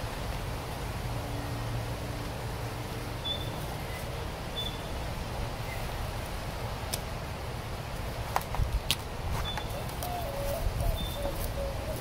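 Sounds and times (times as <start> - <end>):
plants rustling: 2.3 - 12.0.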